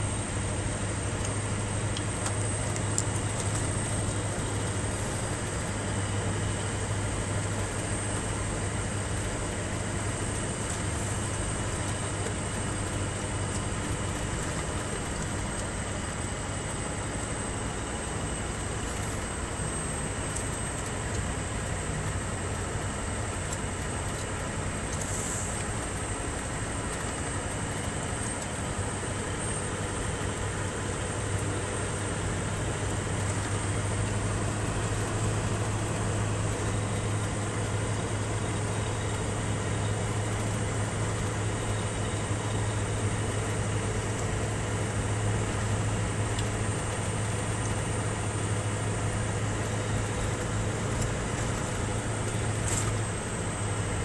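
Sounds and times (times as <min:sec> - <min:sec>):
diesel truck engine under load: 0:00.0 - 0:54.0
low hum: 0:00.0 - 0:54.0.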